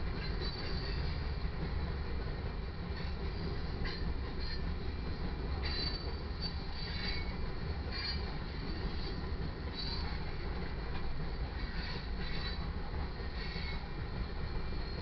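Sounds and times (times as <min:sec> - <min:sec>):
steel wheels squealing on rail: 0:00.0 - 0:01.6, 0:02.8 - 0:15.0
freight train cars rumbling: 0:00.0 - 0:15.0.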